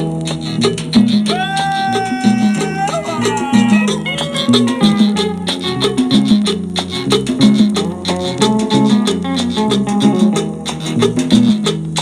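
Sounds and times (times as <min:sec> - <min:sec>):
cumbia music: 0:00.0 - 0:12.0.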